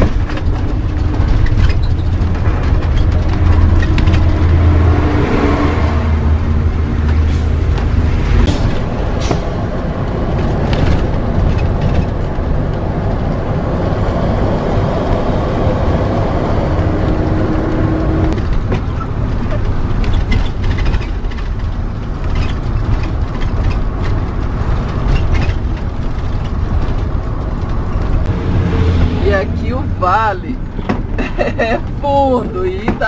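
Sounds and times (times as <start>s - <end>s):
engine and tyre rumble: 0.0s - 33.0s.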